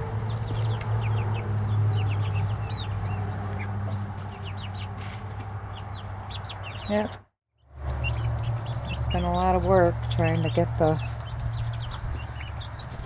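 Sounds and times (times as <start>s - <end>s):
chicks peeping and chirping: 0.0s - 7.2s, 7.8s - 13.0s.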